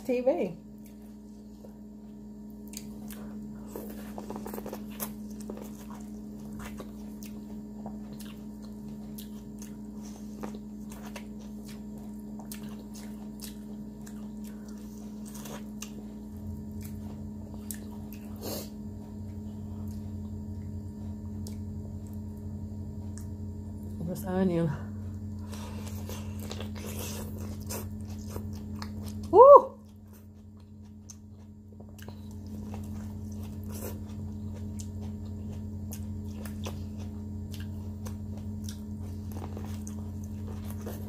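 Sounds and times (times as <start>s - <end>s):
low electrical hum: 0.0s - 41.0s
wet squishy chewing: 2.6s - 22.2s, 25.4s - 41.0s.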